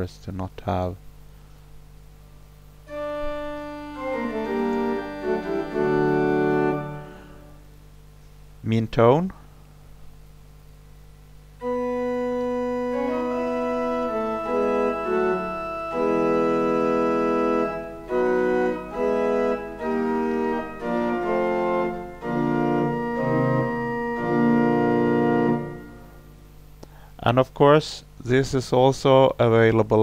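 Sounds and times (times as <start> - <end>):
pipe organ held chords: 1.1 - 27.1.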